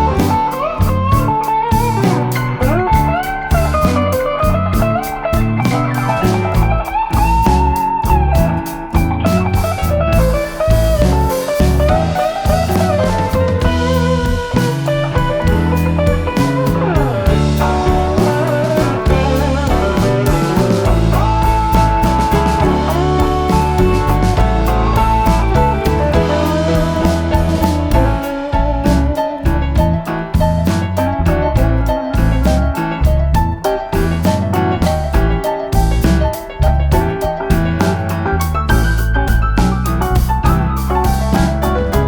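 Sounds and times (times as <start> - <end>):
blues electric guitar with bass and drums: 0.0 - 42.0.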